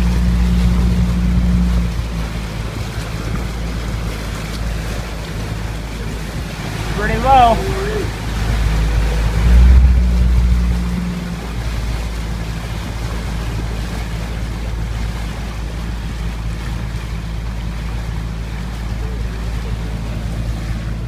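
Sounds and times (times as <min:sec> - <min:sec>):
boat motor humming: 0:00.0 - 0:21.0
water noise: 0:00.0 - 0:21.0.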